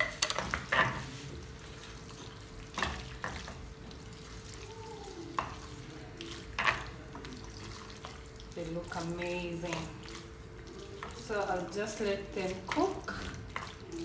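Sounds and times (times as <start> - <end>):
spoon stirring in a pot: 0.0 - 14.0.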